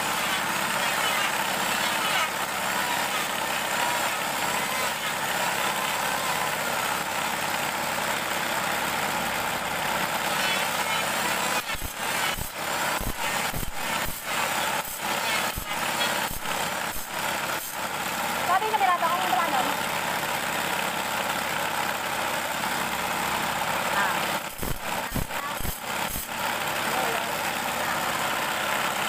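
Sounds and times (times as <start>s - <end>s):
table saw running: 0.0s - 29.0s.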